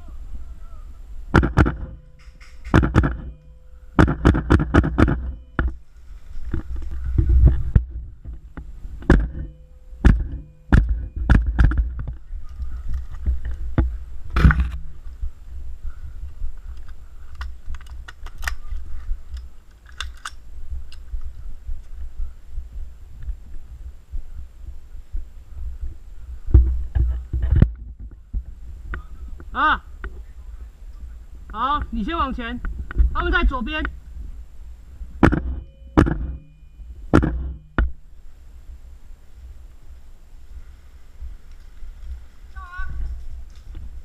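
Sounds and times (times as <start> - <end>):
low muffled rumble: 0.0 - 19.7, 20.4 - 44.0.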